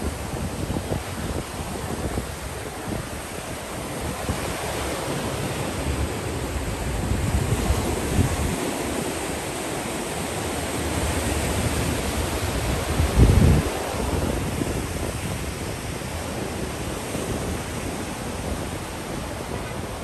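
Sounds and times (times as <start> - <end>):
sea surf washing on shore: 0.0 - 20.0
wind buffeting microphone: 0.0 - 20.0.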